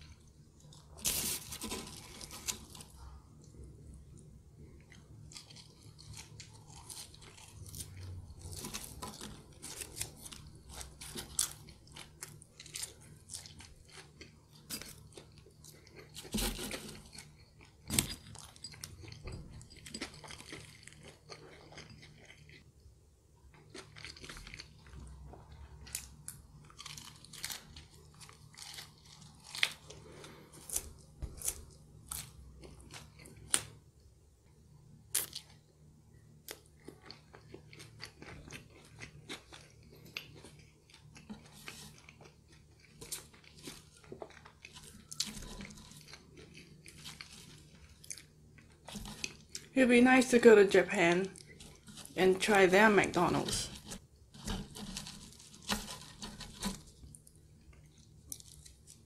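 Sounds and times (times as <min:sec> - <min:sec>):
person chewing crunchy food: 0:00.0 - 0:22.8, 0:23.5 - 0:33.8, 0:35.1 - 0:59.0.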